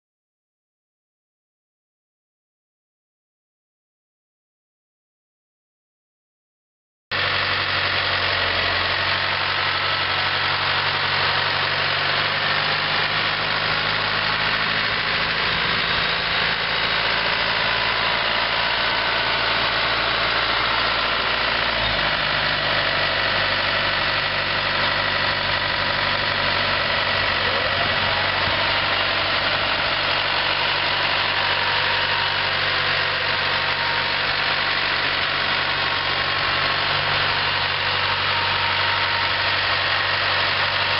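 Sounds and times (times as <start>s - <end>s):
tractor diesel engine running: 7.1s - 40.9s.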